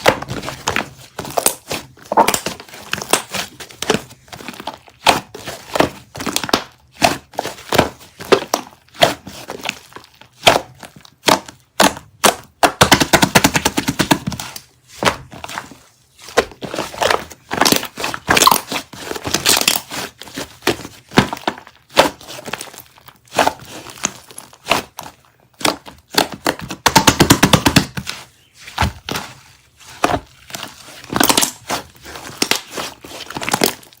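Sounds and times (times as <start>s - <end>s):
slime crackling and popping: 0.0s - 15.3s, 16.3s - 28.0s, 30.0s - 34.0s.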